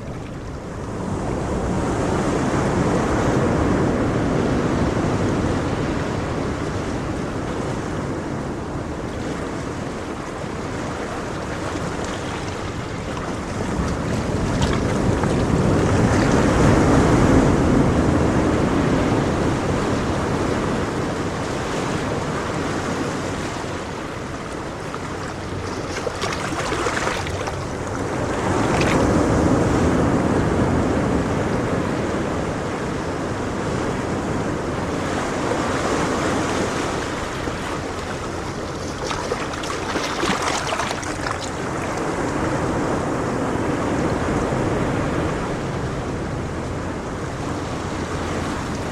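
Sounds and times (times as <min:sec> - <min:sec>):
sea waves breaking: 0:00.0 - 0:48.9.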